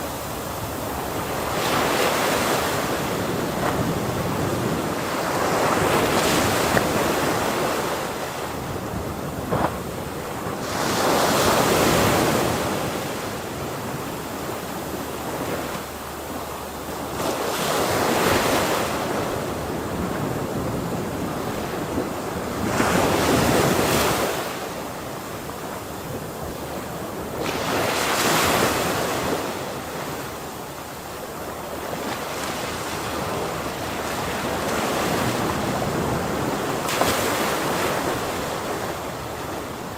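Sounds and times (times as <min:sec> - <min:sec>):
ocean waves crashing on shore: 0:00.0 - 0:39.9.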